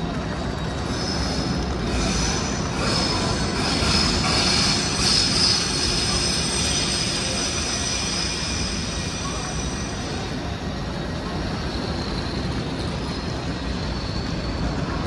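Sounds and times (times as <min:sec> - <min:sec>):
low rumble in station hall: 0:00.0 - 0:15.0
train wheels squealing on rails: 0:00.0 - 0:15.0.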